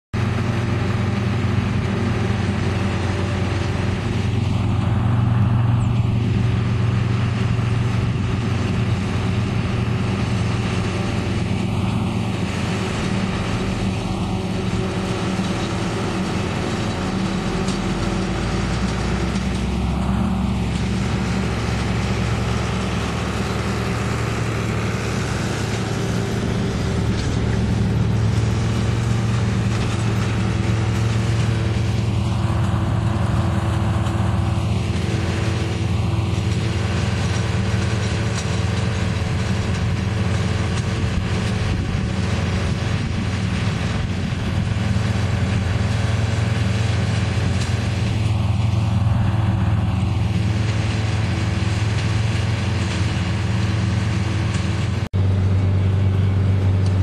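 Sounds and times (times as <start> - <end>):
diesel engine drone: 0.1 - 57.0
forage harvester rushing: 0.2 - 57.0.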